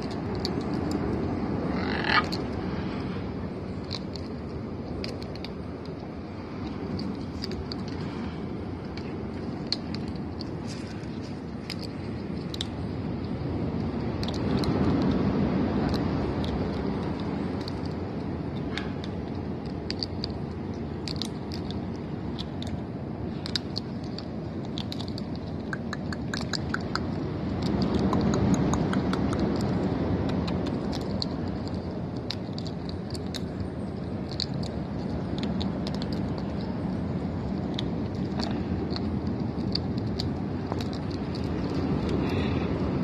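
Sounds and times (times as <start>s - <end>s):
birds cracking seeds with beaks: 0.0s - 43.0s
low background rumble: 0.0s - 43.0s.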